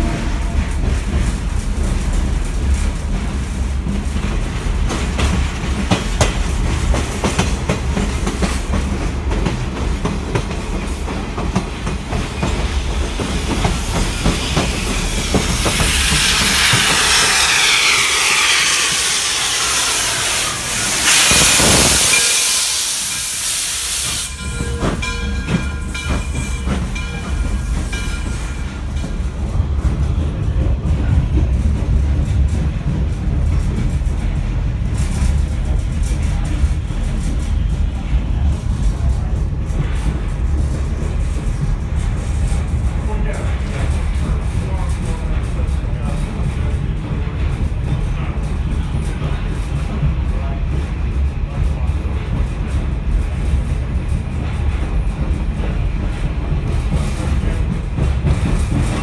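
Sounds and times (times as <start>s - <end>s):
rail car rumble: 0.0s - 59.0s.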